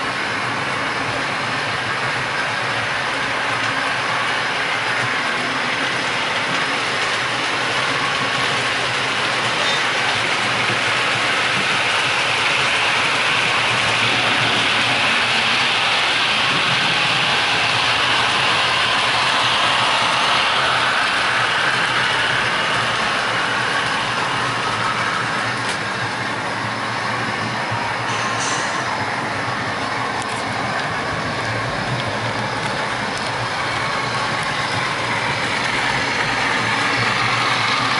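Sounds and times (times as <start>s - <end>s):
model trains running: 0.0s - 37.9s.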